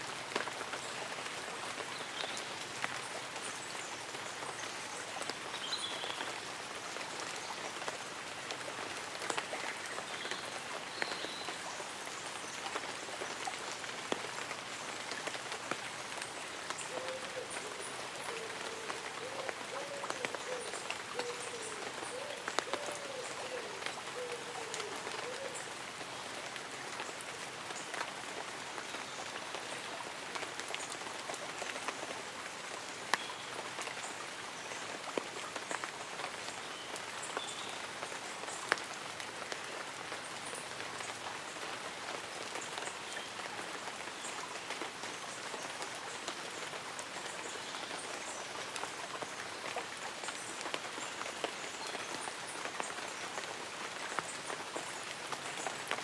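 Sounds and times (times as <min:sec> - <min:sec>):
light rain on leaves: 0:00.0 - 0:56.0.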